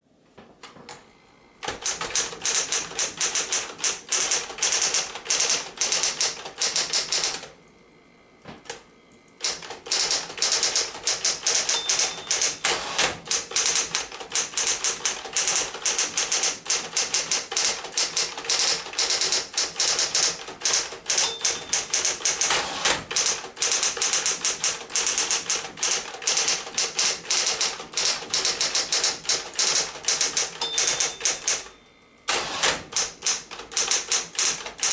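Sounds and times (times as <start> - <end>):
typewriter motor hum: 1.6 - 7.5, 9.4 - 31.7, 32.3 - 34.9
electric typewriter typing: 1.6 - 7.6, 9.4 - 34.9.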